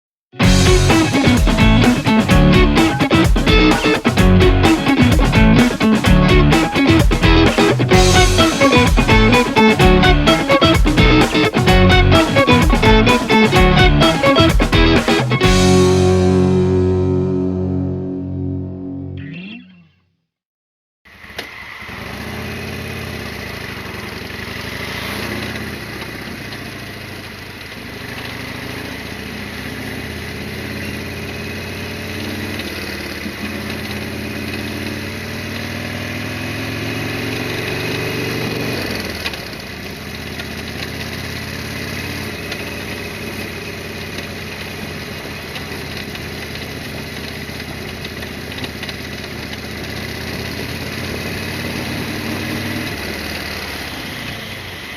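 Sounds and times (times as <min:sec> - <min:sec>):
motorcycle engine running: 0:00.4 - 0:17.6, 0:21.8 - 0:54.9.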